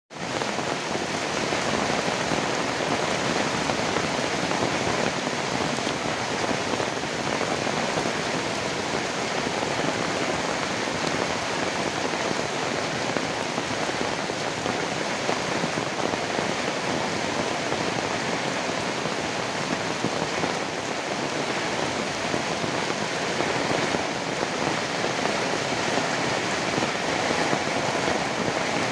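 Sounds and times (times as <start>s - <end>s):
heavy rain falling: 0.1s - 28.9s.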